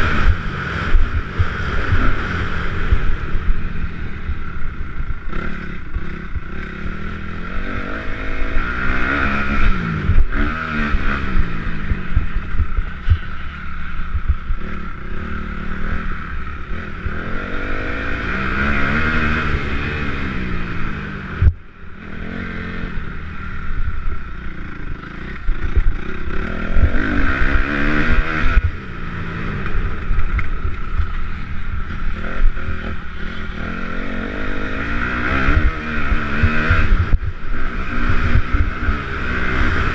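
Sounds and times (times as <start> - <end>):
motocross bikes revving past: 0.0 - 39.9.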